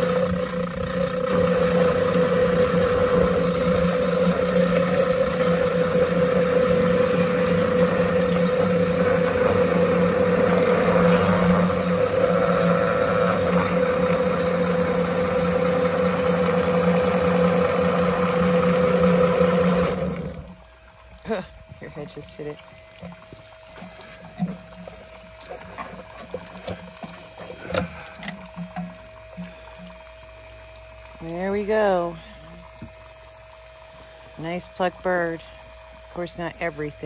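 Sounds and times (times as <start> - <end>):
water hissing from hose nozzle: 0.0 - 33.2
motor hum: 0.0 - 37.0.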